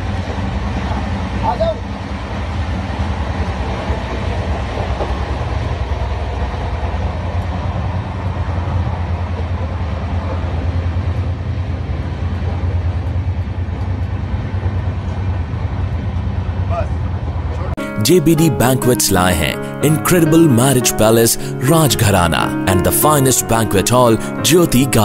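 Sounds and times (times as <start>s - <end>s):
train coach rumbling: 0.0s - 25.0s.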